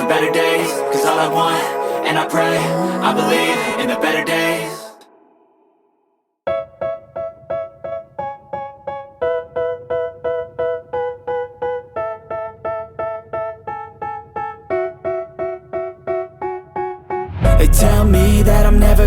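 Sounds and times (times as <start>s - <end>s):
keyboard song intro: 0.0s - 5.3s, 8.2s - 19.0s.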